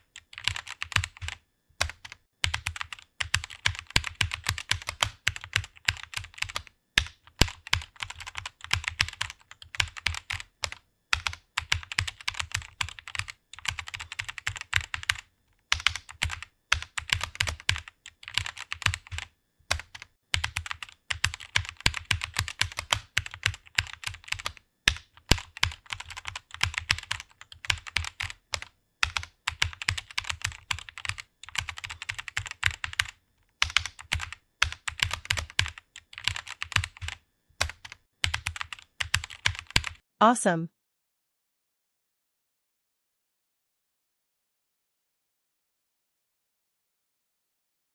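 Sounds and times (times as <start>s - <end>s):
computer keyboard typing: 0.0s - 40.0s.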